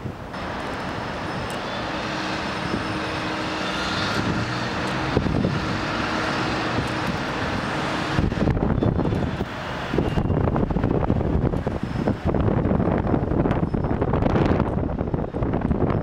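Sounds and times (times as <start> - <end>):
distant city traffic: 0.0 - 15.8.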